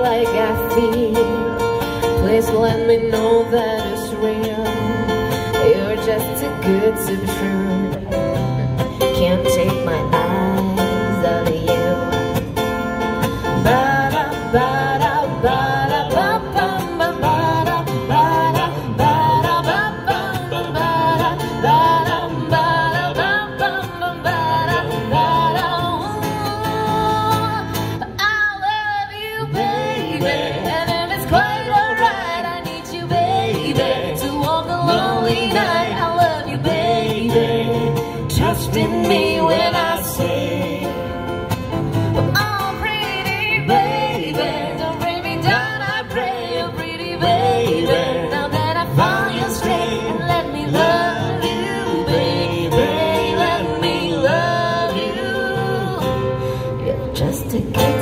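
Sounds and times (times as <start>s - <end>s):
woman singing pop song: 0.0s - 41.4s, 42.2s - 58.0s
acoustic guitar playing: 0.0s - 58.0s.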